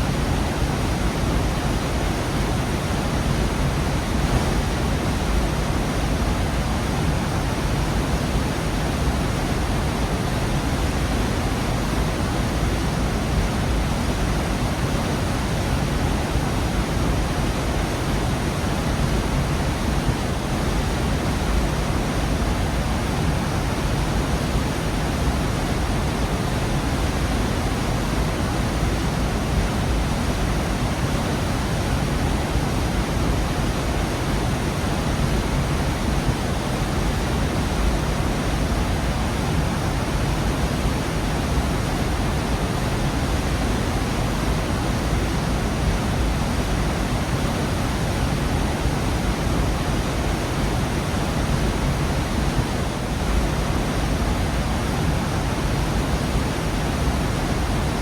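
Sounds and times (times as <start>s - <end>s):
waterfall rushing: 0.1s - 58.0s.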